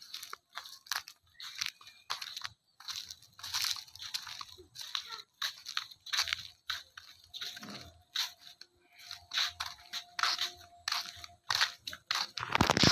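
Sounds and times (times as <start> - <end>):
footsteps crunching on sandy path: 0.0 - 12.9.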